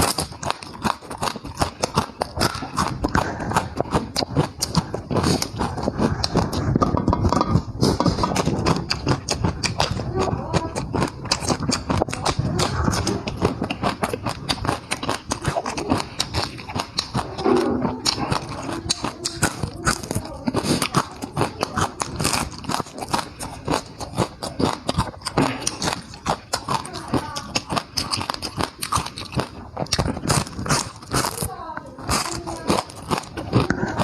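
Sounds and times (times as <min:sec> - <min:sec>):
mouth chewing and biting food: 0:00.0 - 0:34.0.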